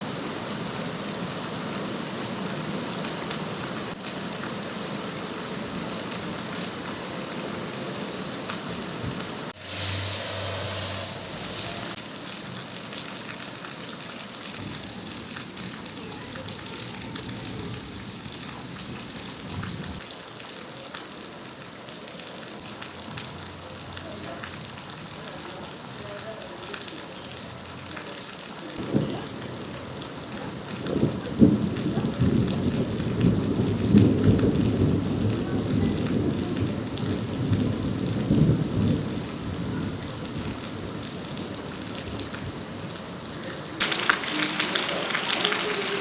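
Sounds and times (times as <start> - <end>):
rain hissing: 0.0 - 46.0.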